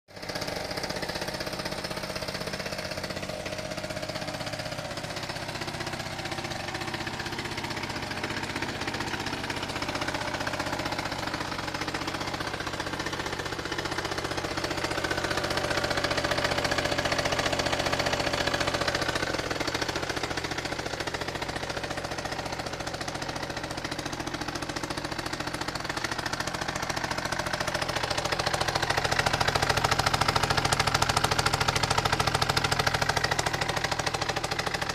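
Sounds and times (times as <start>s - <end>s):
scooter engine idling: 0.1s - 34.9s.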